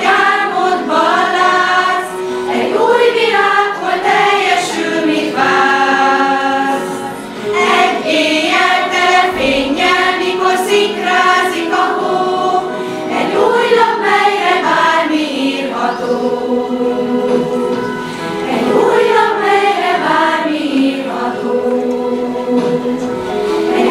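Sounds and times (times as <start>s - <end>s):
women and children choir singing: 0.0s - 23.9s.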